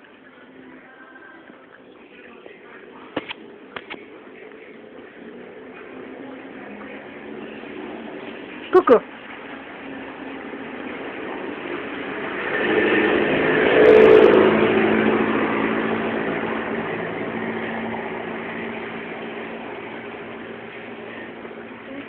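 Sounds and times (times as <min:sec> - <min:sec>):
motor vehicle passing by: 0:01.6 - 0:22.0.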